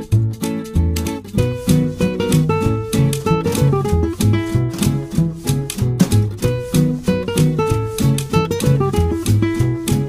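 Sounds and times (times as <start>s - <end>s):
upbeat guitar music: 0.0s - 10.0s.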